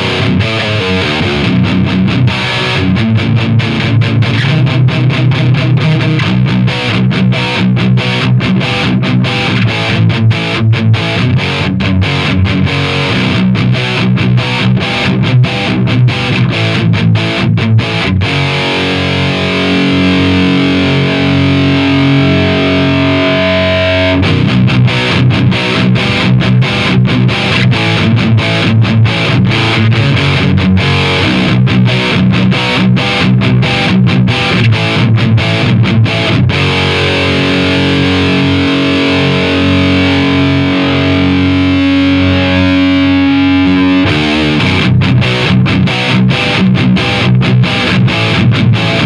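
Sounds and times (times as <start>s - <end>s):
distorted electric guitar metal riffs: 0.0s - 49.0s.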